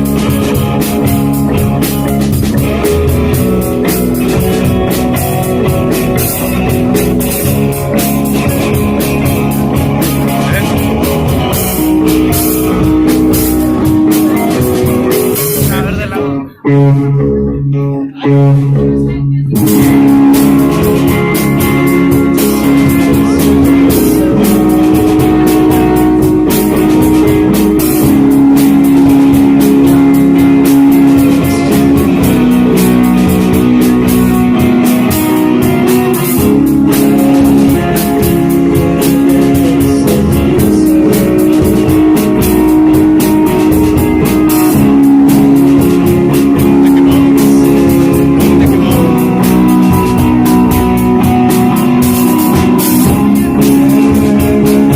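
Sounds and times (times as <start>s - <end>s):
drum kit with cymbal hits: 0.0s - 17.2s, 19.5s - 54.9s
bass: 0.0s - 54.9s
layered electric guitar chords: 0.0s - 54.9s.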